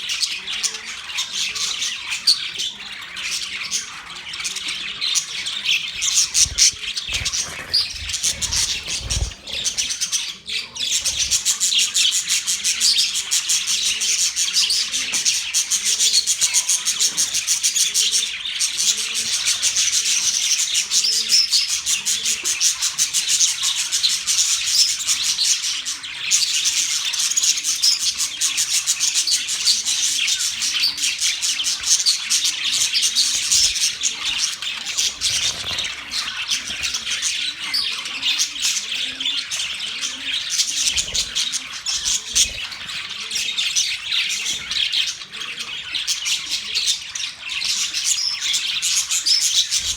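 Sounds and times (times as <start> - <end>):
budgerigars chirping: 0.0 - 49.9.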